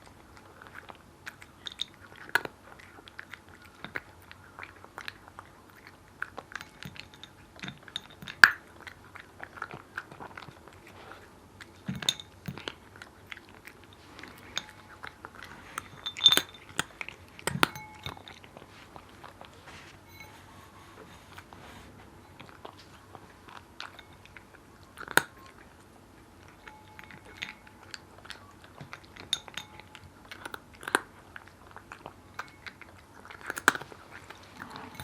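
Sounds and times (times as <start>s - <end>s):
cat crunching dry kibble: 0.0s - 19.7s, 21.2s - 25.8s, 26.4s - 35.0s.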